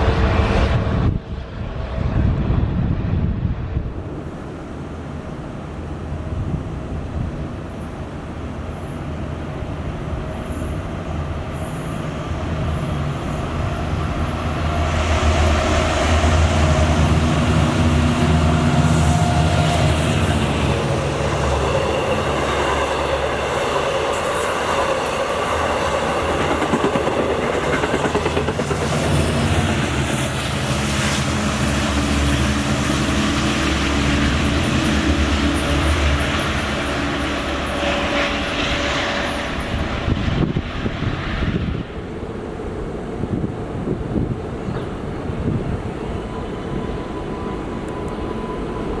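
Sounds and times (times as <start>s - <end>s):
diesel locomotive engine running: 0.0s - 49.0s
train wheels rumbling on rails: 0.0s - 49.0s.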